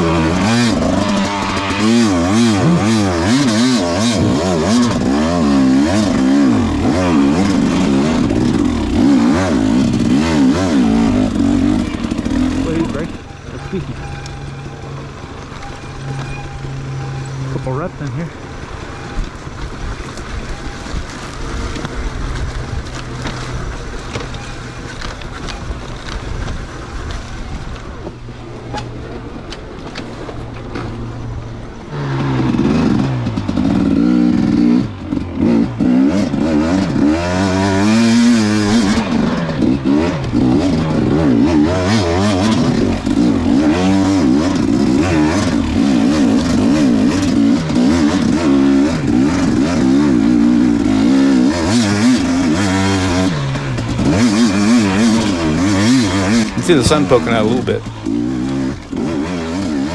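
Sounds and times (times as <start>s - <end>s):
dirt bike engine revving: 0.0s - 25.7s, 30.8s - 59.9s.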